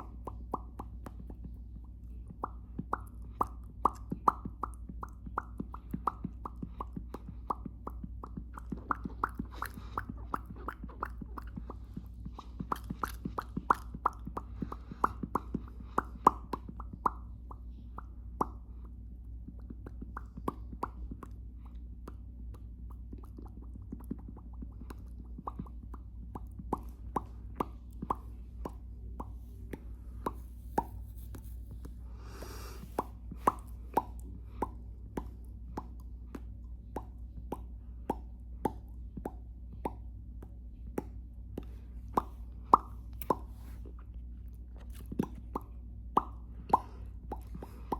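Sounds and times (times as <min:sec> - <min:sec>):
person making mouth pops: 0:00.0 - 0:47.9.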